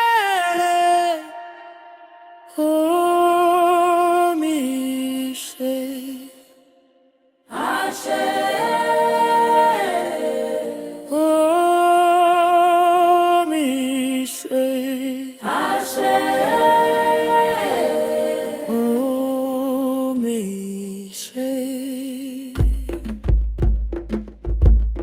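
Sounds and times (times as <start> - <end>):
a cappella voices in harmony: 0.0 - 23.1.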